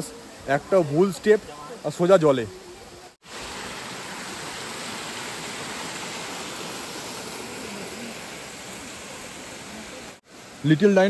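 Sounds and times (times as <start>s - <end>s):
stream cascading over rocks: 0.0s - 11.0s.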